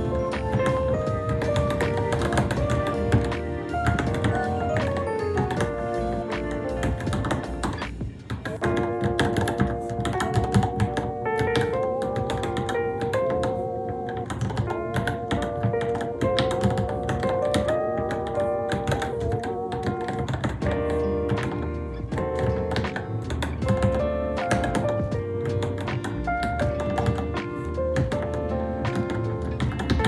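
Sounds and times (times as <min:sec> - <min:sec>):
mechanical keyboard typing: 0:00.0 - 0:05.9, 0:06.8 - 0:30.0
background music: 0:00.0 - 0:30.0.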